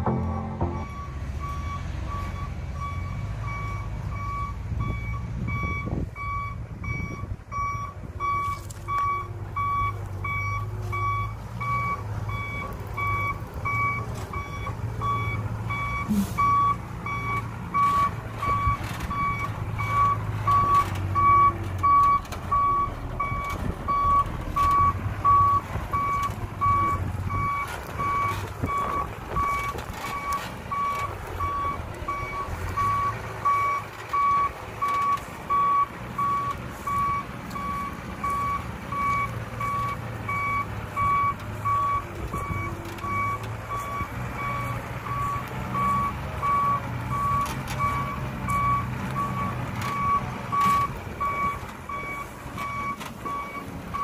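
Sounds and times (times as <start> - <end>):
diesel engine running: 0.0 - 54.0
truck reverse alarm beeping: 0.0 - 54.0.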